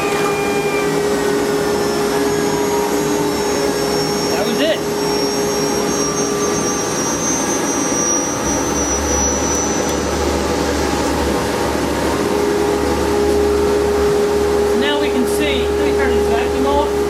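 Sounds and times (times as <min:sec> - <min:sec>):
cnc router running: 0:00.0 - 0:17.0
low machine hum: 0:00.0 - 0:17.0.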